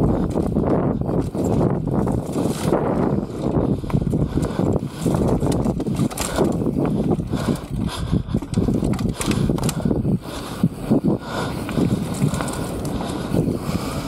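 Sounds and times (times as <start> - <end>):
bike rattling and knocking: 0.0 - 14.0
tyres rumbling on dirt: 0.0 - 14.0.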